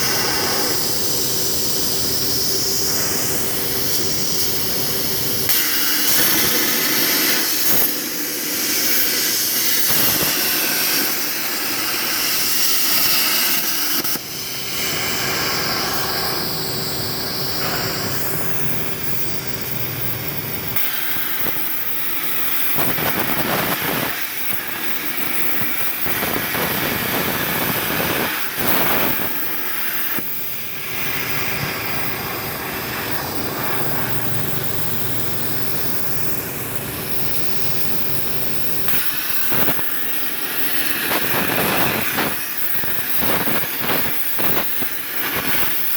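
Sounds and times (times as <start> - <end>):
plasma torch hissing: 0.0 - 45.9.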